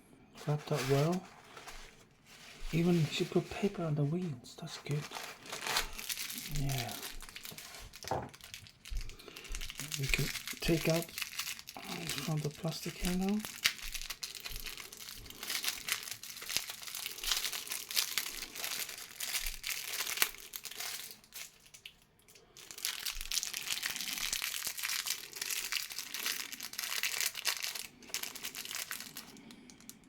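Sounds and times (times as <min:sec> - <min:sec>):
plastic packaging crinkling: 0:00.4 - 0:30.0.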